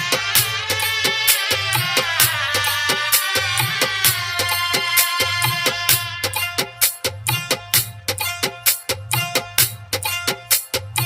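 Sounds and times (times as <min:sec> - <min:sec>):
driving drum beat: 0:00.0 - 0:11.0
folk music over sound system: 0:00.0 - 0:11.0.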